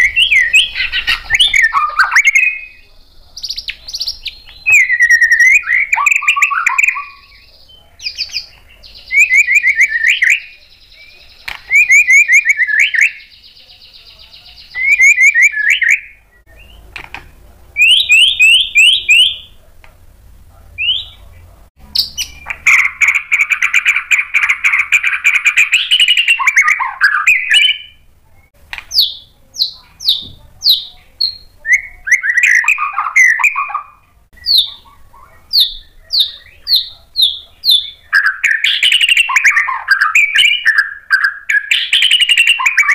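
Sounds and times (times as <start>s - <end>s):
bird singing whistled notes: 0.0s - 16.9s, 17.8s - 19.6s, 20.8s - 21.3s, 22.0s - 28.0s, 28.9s - 42.9s.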